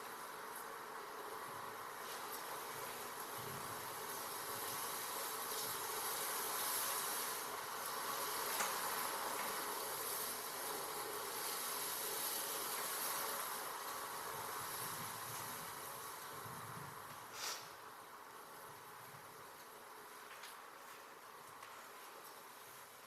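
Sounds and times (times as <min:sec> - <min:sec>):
hissing electronic noise: 0:00.0 - 0:23.0.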